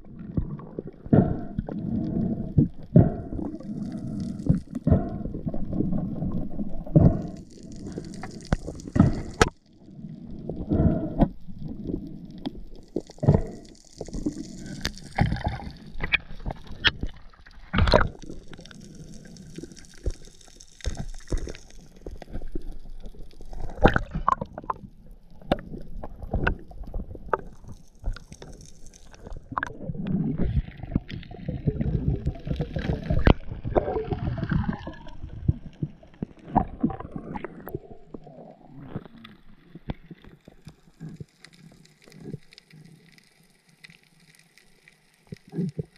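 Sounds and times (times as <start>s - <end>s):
water rushing and gurgling underwater: 0.0s - 45.9s.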